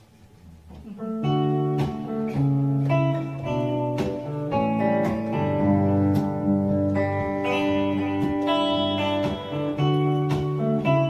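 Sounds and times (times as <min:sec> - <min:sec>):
electric guitar picked chords: 0:00.4 - 0:11.0.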